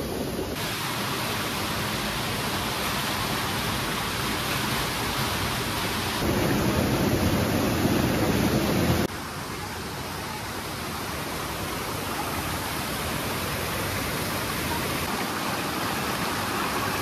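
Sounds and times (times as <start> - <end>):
waterfall pouring over rocks: 0.0 - 17.0.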